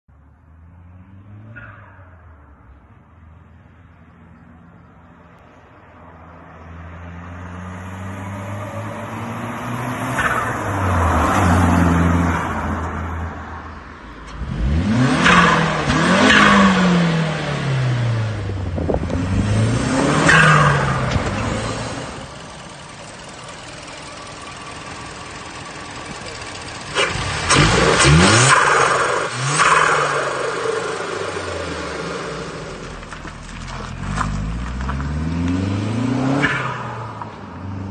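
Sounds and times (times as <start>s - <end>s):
car engine revving: 6.5s - 37.9s.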